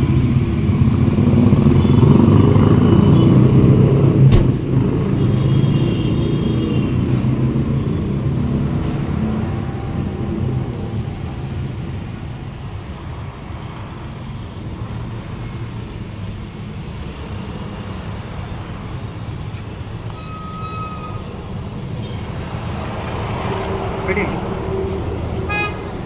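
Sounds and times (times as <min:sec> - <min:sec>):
motor vehicles rumbling: 0:00.0 - 0:26.0.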